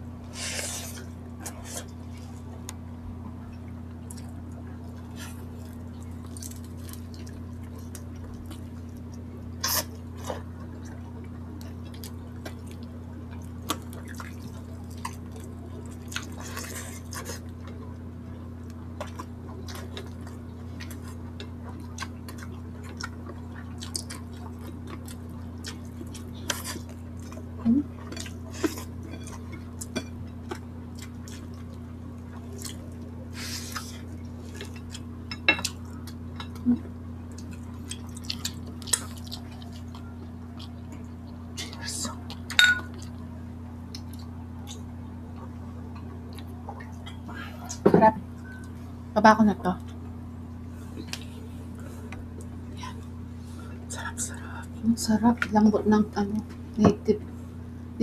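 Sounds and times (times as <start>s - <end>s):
steady low hum: 0.0s - 58.0s
chewing and mouth smacks: 3.5s - 47.8s, 50.8s - 53.1s.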